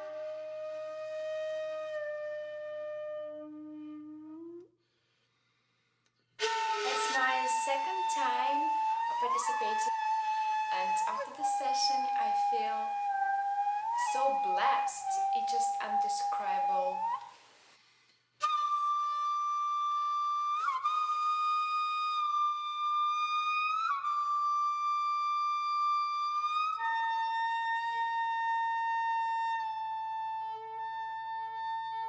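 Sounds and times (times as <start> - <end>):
flute-like slow melody: 0.0 - 4.7, 6.4 - 17.4, 18.4 - 32.0.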